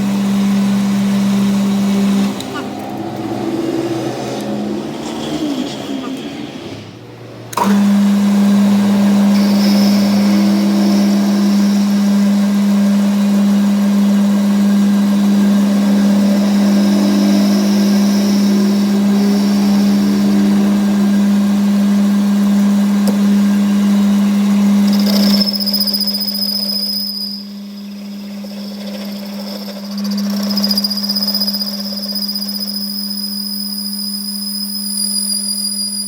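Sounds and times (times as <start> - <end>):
machine humming: 0.0 - 33.7
faint high whines: 0.0 - 36.0.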